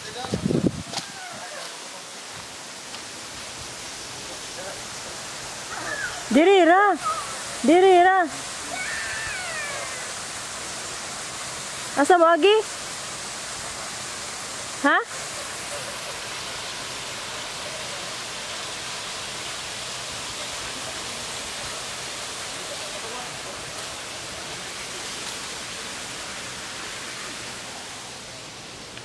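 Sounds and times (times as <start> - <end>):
creek flowing over rocks: 0.0 - 29.0.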